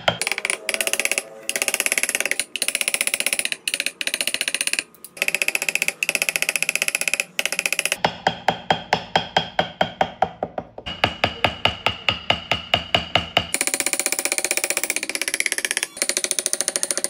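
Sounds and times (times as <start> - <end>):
wooden block percussion music: 0.0 - 17.0.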